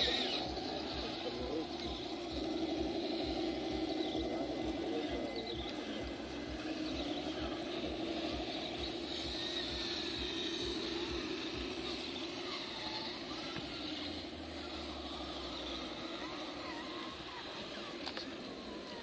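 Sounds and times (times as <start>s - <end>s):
rc crawler motors whining: 0.0s - 19.0s.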